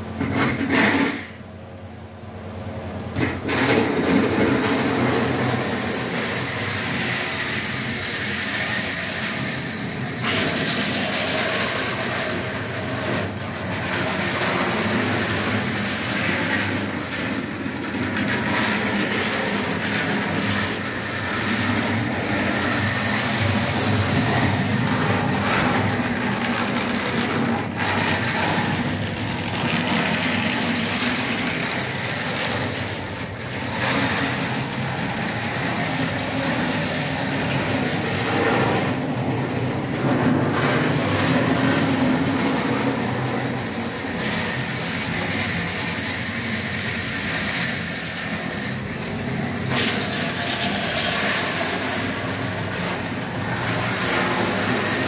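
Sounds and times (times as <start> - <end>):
thin high motor whine: 0.0 - 55.0
model train rolling rattle: 3.2 - 55.0.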